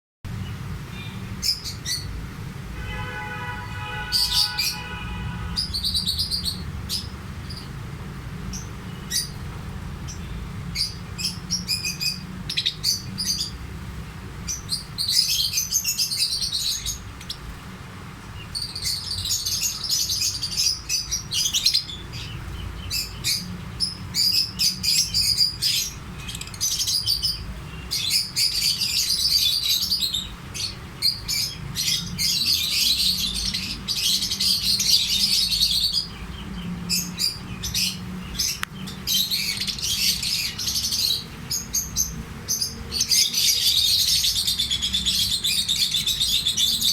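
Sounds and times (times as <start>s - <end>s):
lovebirds chirping: 0.3s - 46.9s.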